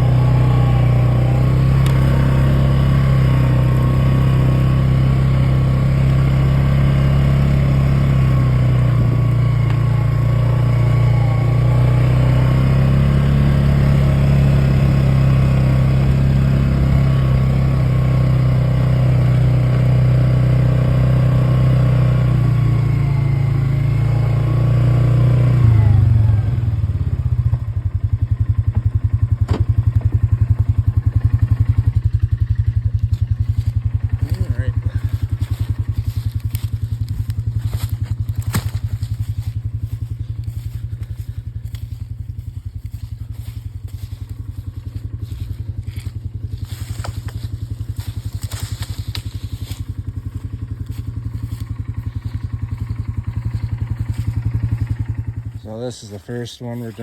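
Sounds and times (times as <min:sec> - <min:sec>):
engine pulsing idle: 0:00.0 - 0:57.0
quad engine running: 0:00.0 - 0:57.0.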